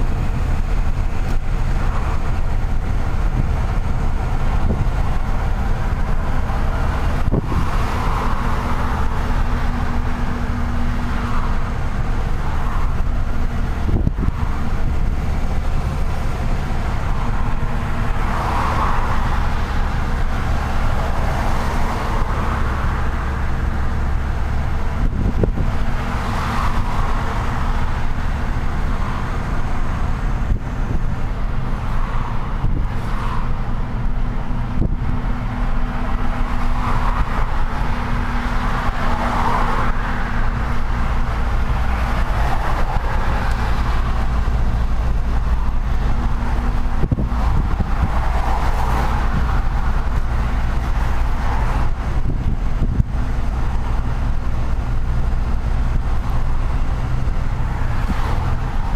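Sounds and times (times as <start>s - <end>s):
truck engine droning: 0.0s - 58.9s
tyre and road noise: 0.0s - 58.9s.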